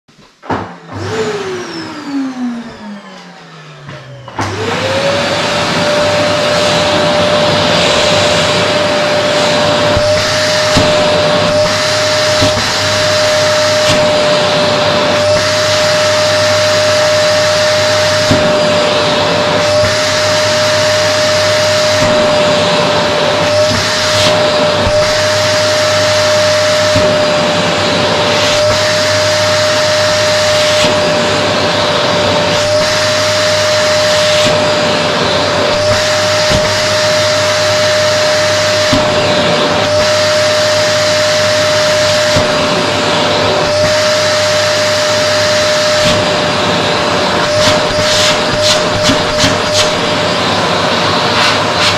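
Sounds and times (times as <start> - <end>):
vacuum cleaner whine: 0.1 - 51.9
hose sucking at fabric: 6.1 - 51.9.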